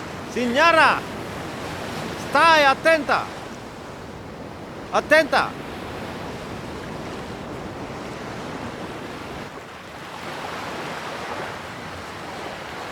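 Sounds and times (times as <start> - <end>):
sea surf washing: 0.0 - 12.9
wind: 0.0 - 12.9.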